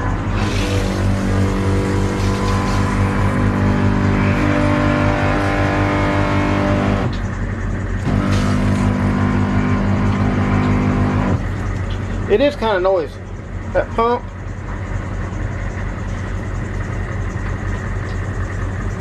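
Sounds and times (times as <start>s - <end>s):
water pump pulsing hum: 0.0s - 19.0s.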